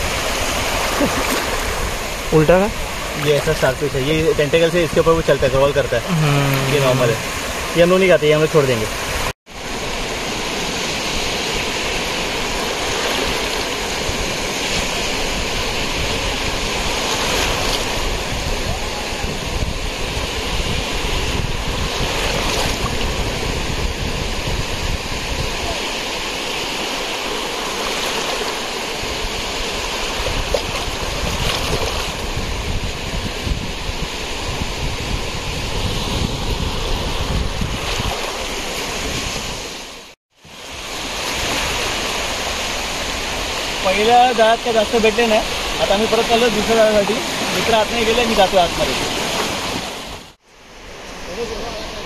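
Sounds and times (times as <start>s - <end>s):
wind rumbling on microphone: 0.0s - 7.8s, 8.9s - 44.0s
sea waves washing on beach: 0.0s - 52.0s.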